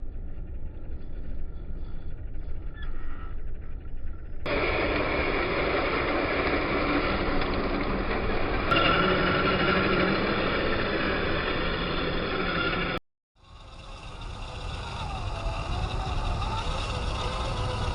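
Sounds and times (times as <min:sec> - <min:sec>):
low rumble: 0:00.0 - 0:17.9
rc car motor and gear whine: 0:00.0 - 0:17.9.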